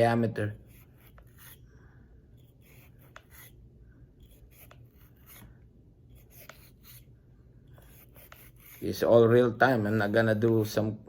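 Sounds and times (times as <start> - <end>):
bore brush rasping in cylinder: 0.4 - 10.6.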